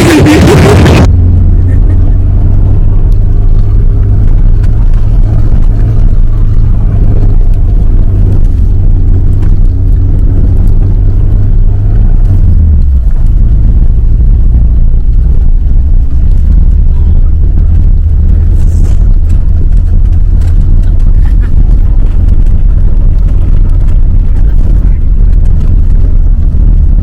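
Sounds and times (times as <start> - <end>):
car engine and road drone: 0.0 - 27.0.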